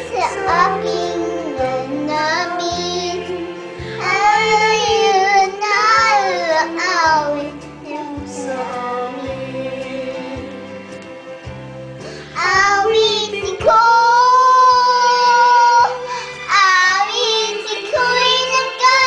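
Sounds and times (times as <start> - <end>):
girl singing into microphone: 0.0 - 10.5, 12.2 - 19.0.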